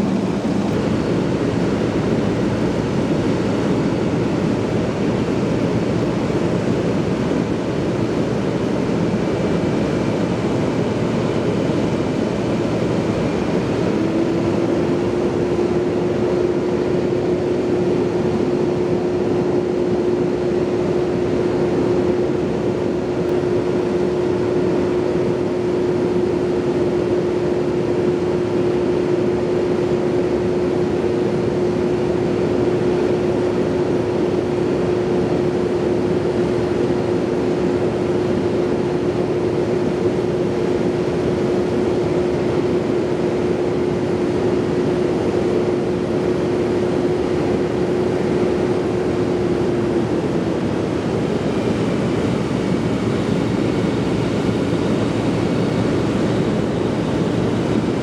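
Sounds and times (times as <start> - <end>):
engine running: 0.0 - 58.0
steady hum: 0.0 - 58.0.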